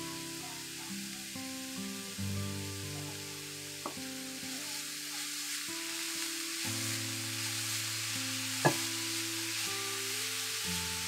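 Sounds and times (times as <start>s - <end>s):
food sizzling in a skillet: 0.0s - 11.0s
soft background music: 0.0s - 11.0s.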